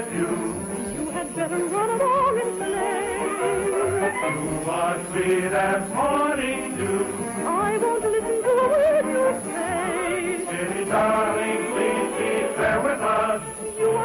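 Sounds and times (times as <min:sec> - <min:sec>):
orchestra playing: 0:00.0 - 0:14.0.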